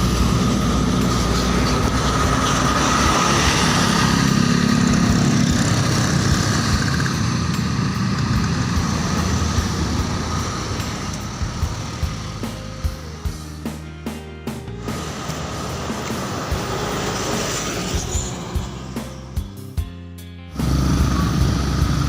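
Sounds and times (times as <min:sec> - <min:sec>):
bus passing close by: 0:00.0 - 0:13.4, 0:14.8 - 0:19.8, 0:20.5 - 0:22.0.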